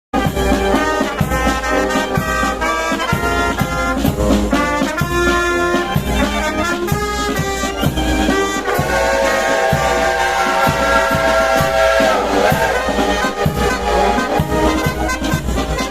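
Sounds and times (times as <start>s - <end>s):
brass band playing: 0.2s - 15.9s
steady drum beat: 0.2s - 15.9s.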